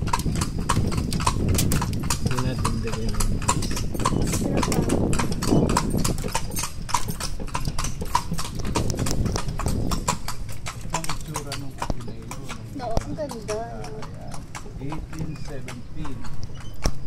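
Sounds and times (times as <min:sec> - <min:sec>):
carriage rolling rumble: 0:00.0 - 0:17.0
horse hooves clip-clopping on asphalt: 0:00.0 - 0:17.0.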